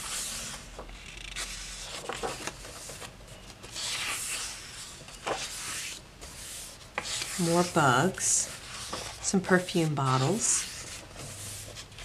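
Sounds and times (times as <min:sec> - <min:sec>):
book pages turning: 0:00.0 - 0:12.0
paper rustling and sliding: 0:00.0 - 0:12.0.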